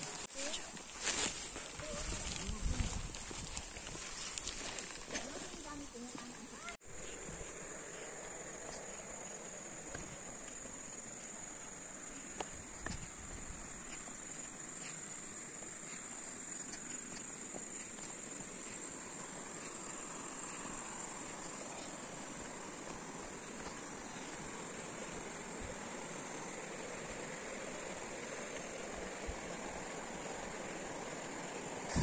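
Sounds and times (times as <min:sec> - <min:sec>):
footsteps on dirt trail: 0:00.0 - 0:32.0
insects chirring: 0:00.0 - 0:32.0.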